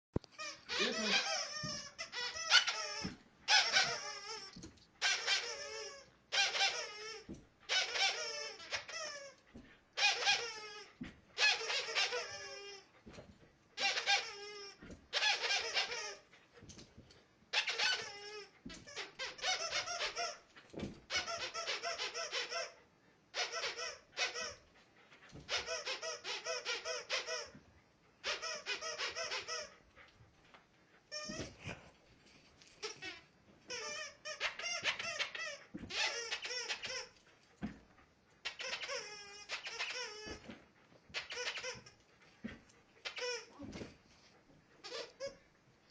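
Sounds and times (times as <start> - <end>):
squeaky dog toy squeaking: 0.3 - 13.2, 13.8 - 16.6, 17.5 - 24.7, 25.3 - 27.6, 28.2 - 29.8, 31.1 - 31.6, 32.8 - 37.3, 38.4 - 43.9, 44.7 - 45.4.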